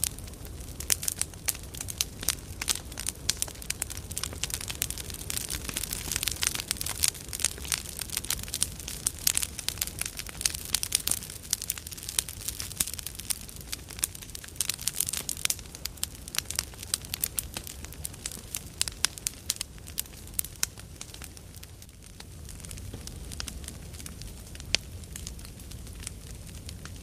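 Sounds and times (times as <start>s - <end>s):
campfire crackling and popping: 0.0s - 27.0s
low rumble of flames: 0.0s - 27.0s.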